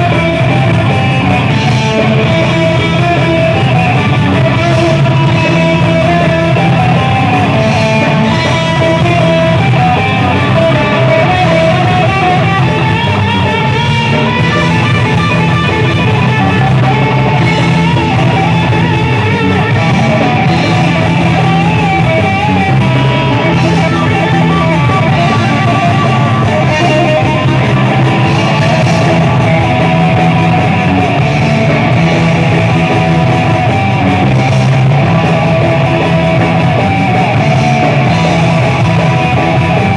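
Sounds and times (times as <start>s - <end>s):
thrash metal band playing: 0.0s - 39.9s
wavering lead guitar line: 0.0s - 39.9s.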